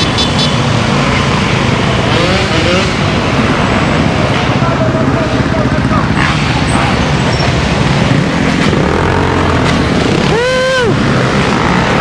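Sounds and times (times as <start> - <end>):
dirt bike engine revving: 0.0 - 4.5, 5.7 - 12.0
traffic noise: 0.0 - 12.0.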